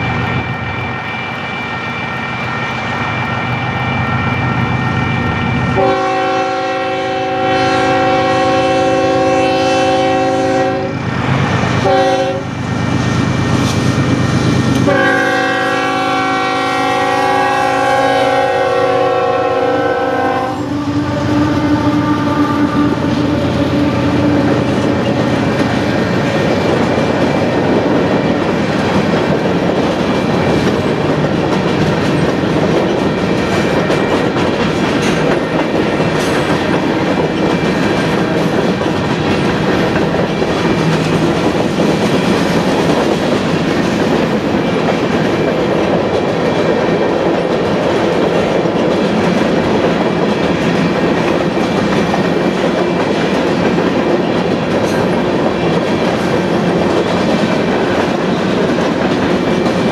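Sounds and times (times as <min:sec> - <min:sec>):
train wheels clattering on rails: 0:00.0 - 0:20.5, 0:21.2 - 0:59.9.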